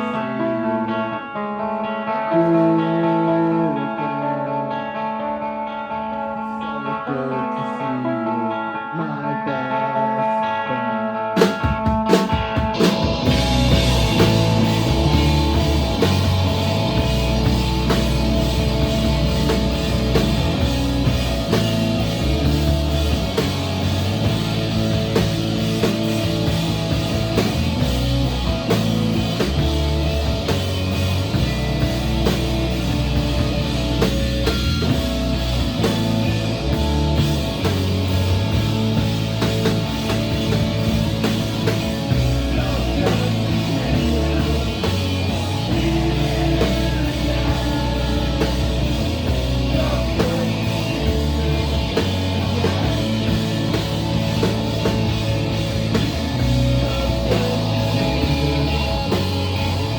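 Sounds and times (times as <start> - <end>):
bass guitar: 0.0 - 59.9
electric guitar: 0.0 - 59.9
drum kit: 11.4 - 59.9.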